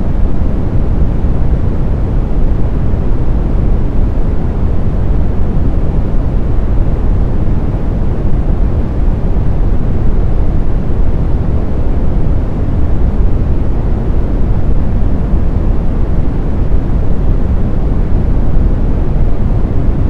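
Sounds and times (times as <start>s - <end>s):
deep brown noise hiss: 0.0s - 20.0s.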